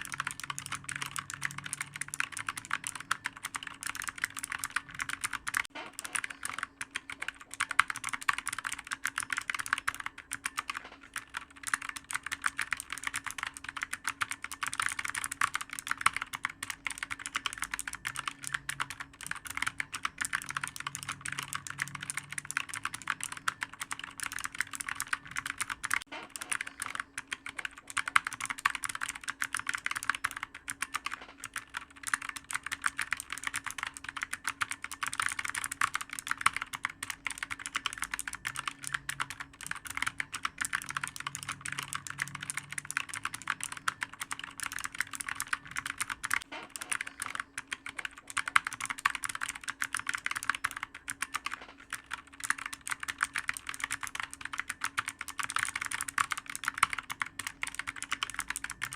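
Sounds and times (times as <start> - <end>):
keyboard typing: 0.0 - 58.9.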